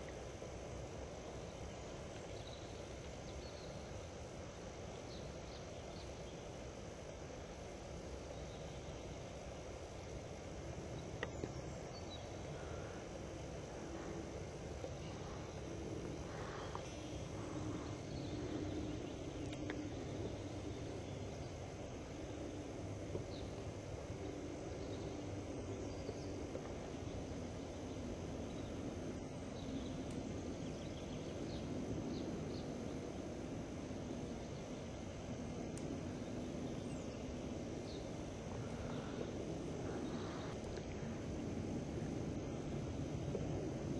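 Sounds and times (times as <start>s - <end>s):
low outdoor rumble: 0.0s - 43.9s.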